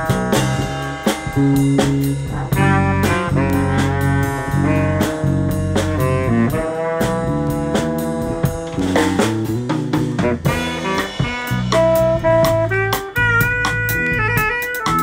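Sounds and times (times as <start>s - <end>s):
drums and cymbals: 0.0s - 15.0s
electric bass line: 0.0s - 15.0s
trombone long notes: 0.0s - 15.0s.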